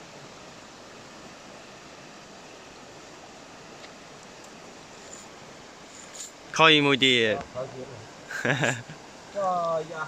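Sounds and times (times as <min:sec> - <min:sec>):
fast river rushing: 0:00.0 - 0:10.0.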